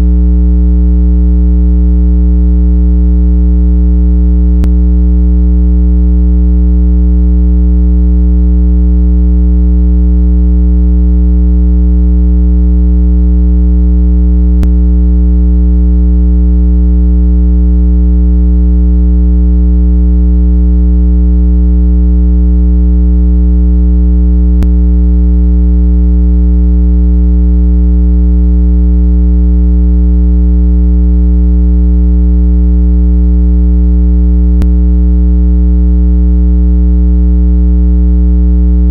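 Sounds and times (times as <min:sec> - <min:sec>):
steady buzzy electronic low tone: 0:00.0 - 0:29.7, 0:33.9 - 0:35.9.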